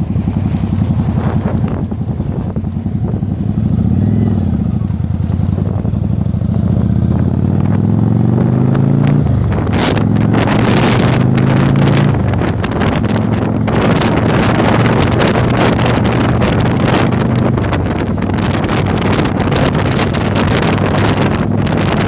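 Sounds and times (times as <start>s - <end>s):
motorcycle engine revving: 0.0s - 22.0s
wind buffeting microphone: 0.0s - 22.0s.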